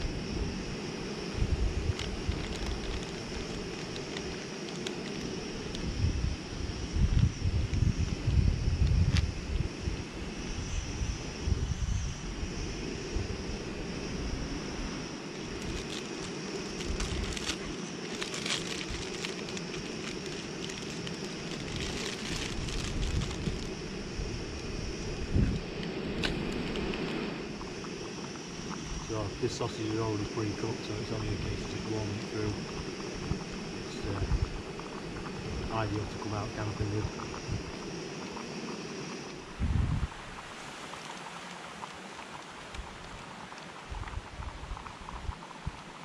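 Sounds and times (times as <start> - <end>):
wind buffeting microphone: 0.0 - 40.9, 42.6 - 46.0
camp stove burner hissing: 0.0 - 46.0.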